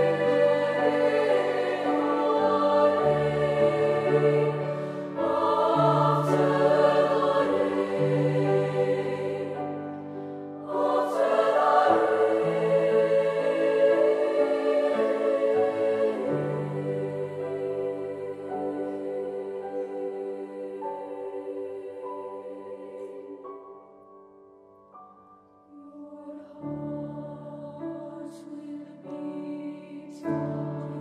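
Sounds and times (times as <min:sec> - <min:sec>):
treble choir singing: 0:00.0 - 0:24.2, 0:25.7 - 0:31.0
grand piano accompaniment: 0:00.0 - 0:31.0.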